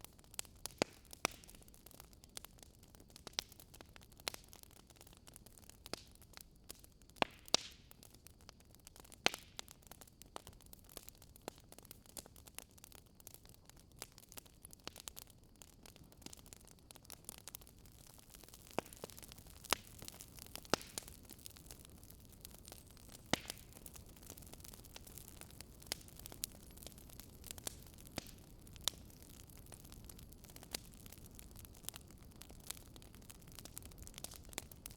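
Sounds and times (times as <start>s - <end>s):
wood fire popping and snapping: 0.0s - 34.9s.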